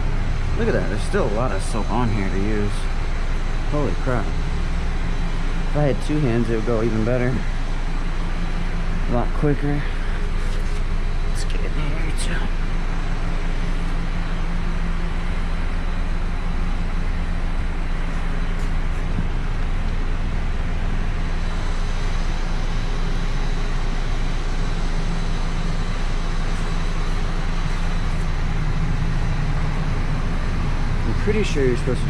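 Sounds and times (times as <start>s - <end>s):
low mechanical drone: 0.0s - 32.0s.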